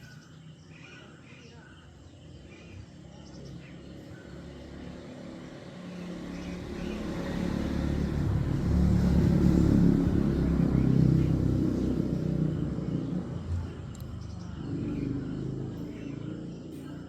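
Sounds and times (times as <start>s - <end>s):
vehicle engine rumble: 1.6s - 17.0s.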